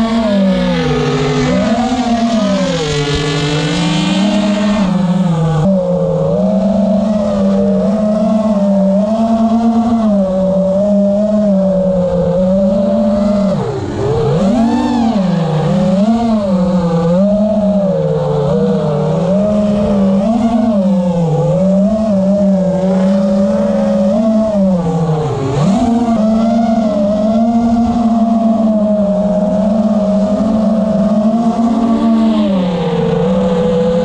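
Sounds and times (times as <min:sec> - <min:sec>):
drone motors whining: 0:00.0 - 0:34.0.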